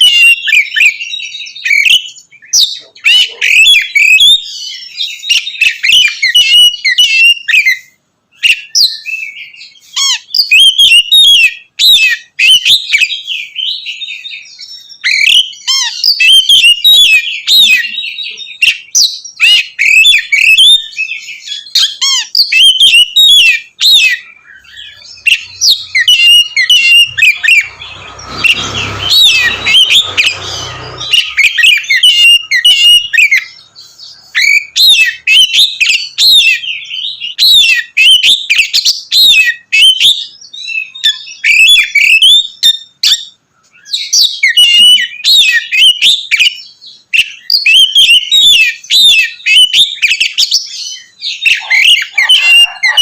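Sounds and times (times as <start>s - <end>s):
bird singing whistled notes: 0.0s - 53.0s.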